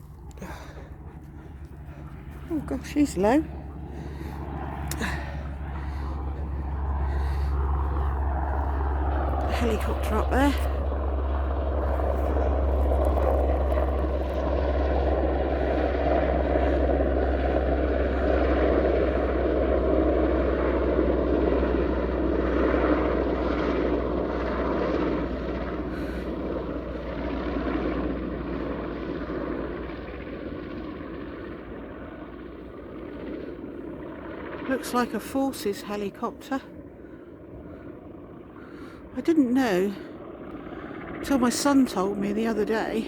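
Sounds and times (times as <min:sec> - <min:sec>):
helicopter flying overhead: 0:00.0 - 0:43.0.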